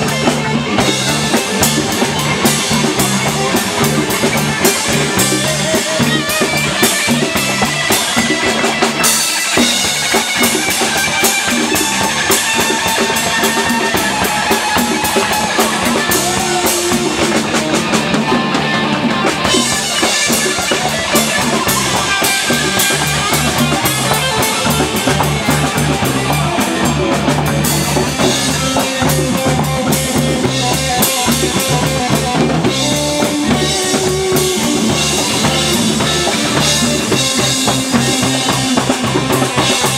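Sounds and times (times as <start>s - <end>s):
drum kit beat: 0.0s - 39.9s
electric bass: 0.0s - 39.9s
electric guitar: 0.0s - 39.9s.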